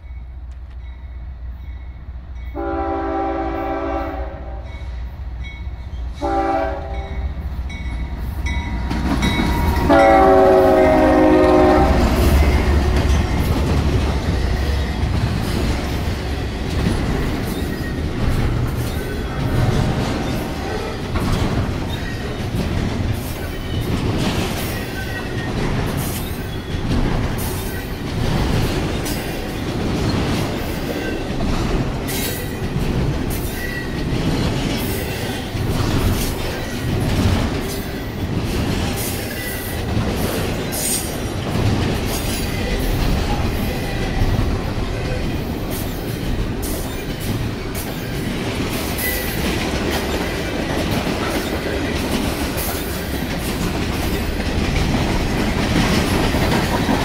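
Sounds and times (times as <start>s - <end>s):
freight train rumbling past: 0.0s - 57.0s
wheels clacking over rail joints: 7.7s - 57.0s.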